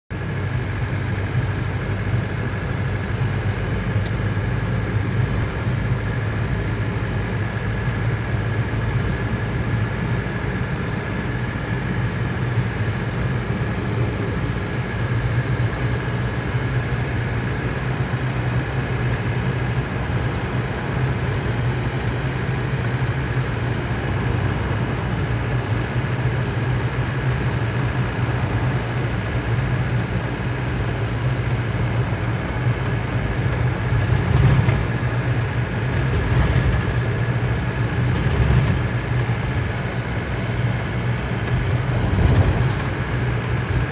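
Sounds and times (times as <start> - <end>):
car engine hum in cabin: 0.1 - 43.9
road rush: 0.1 - 43.9.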